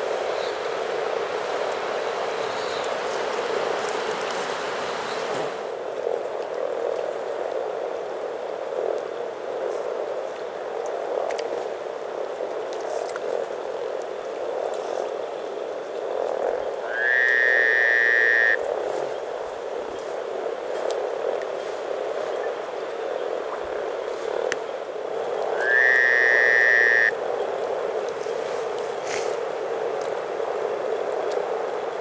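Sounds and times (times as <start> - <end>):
frogs croaking chorus: 0.0 - 4.4, 5.6 - 32.0.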